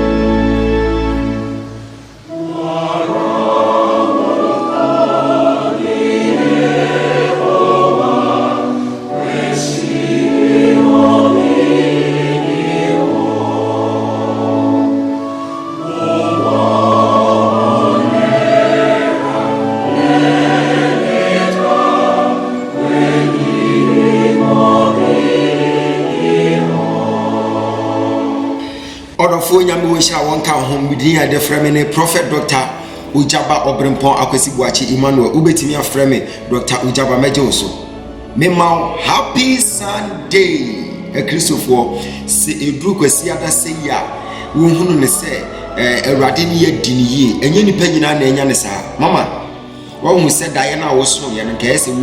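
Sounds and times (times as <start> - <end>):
choir singing gospel: 0.0 - 52.0.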